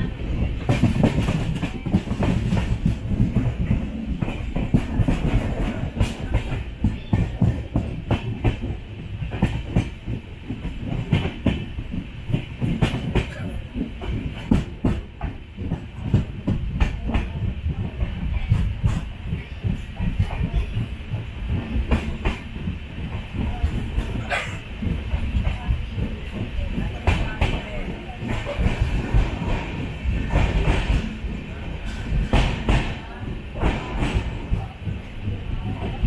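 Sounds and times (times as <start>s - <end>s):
train rumbling on track: 0.0s - 36.0s.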